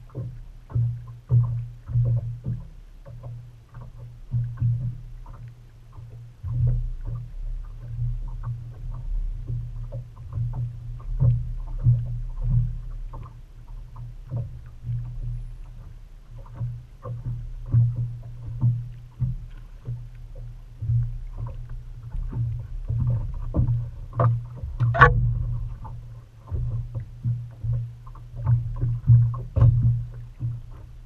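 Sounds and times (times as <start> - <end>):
low steady hum: 0.0 - 31.0
small waves slapping against boat hull: 0.0 - 31.0.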